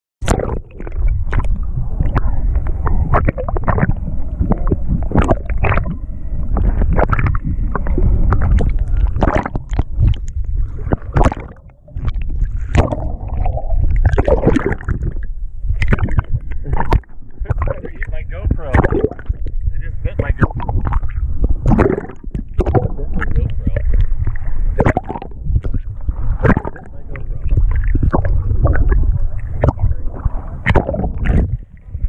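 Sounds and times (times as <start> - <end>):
steady low rumble: 0.2 - 32.0
seawater sloshing and splashing: 0.3 - 32.0.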